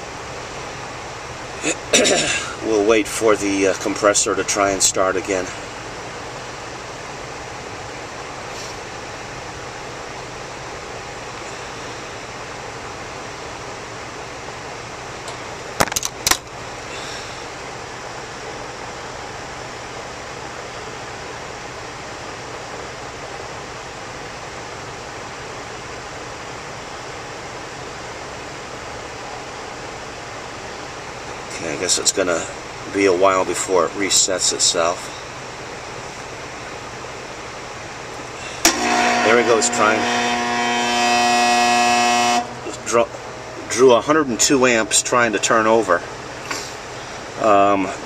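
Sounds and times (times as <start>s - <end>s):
fan motor running: 0.0s - 48.0s.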